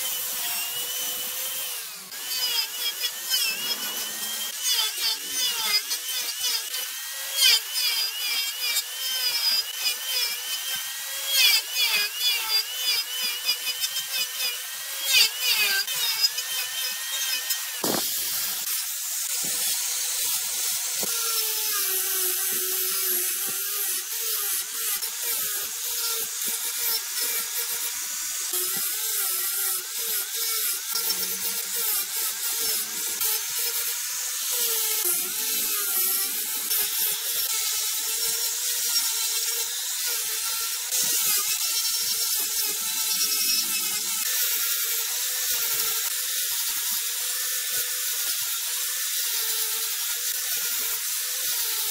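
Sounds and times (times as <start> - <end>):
angle grinder carving wood: 0.0 - 51.9.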